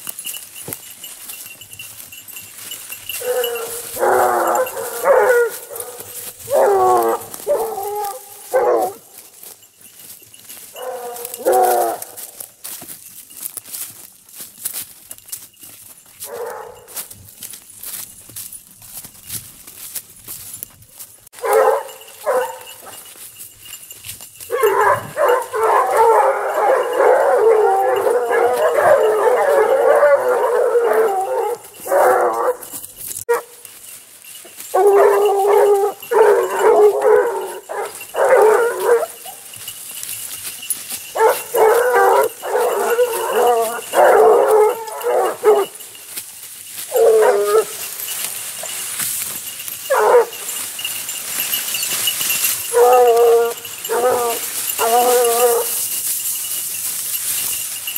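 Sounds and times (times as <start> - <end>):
hounds baying: 0.0 - 12.7, 16.1 - 17.5, 21.3 - 57.9.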